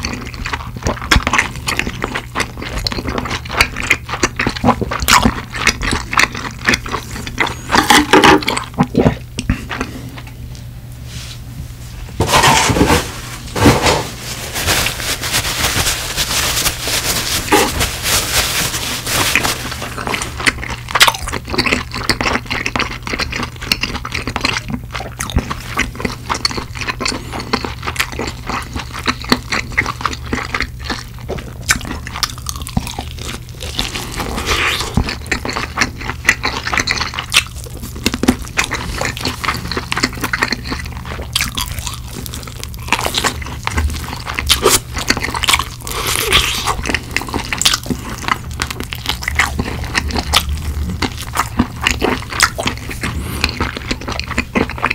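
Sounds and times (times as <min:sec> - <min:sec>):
crunching fried chicken: 0:00.0 - 0:10.4, 0:12.2 - 0:54.9
wet chewing: 0:00.0 - 0:10.4, 0:14.7 - 0:54.9.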